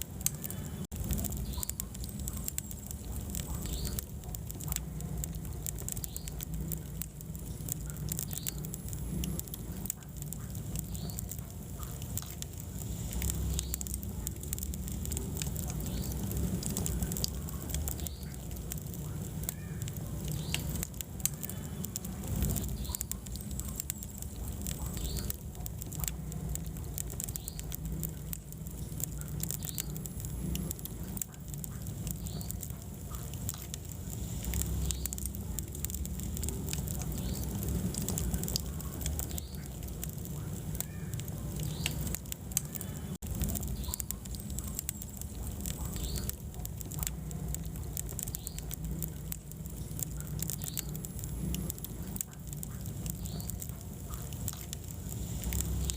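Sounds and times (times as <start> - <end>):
low rumble of flame: 0.0 - 55.9
wood fire crackling and popping: 0.0 - 55.9.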